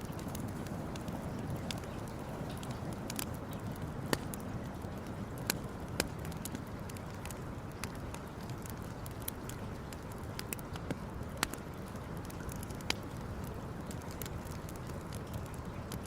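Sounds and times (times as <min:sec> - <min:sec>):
campfire crackling and popping: 0:00.0 - 0:16.0
low rush of fire: 0:00.0 - 0:16.0.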